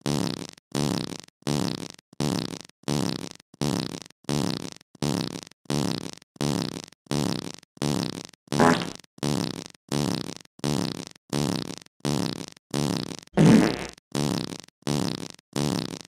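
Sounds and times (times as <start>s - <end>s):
fart sounds: 0.0s - 16.0s.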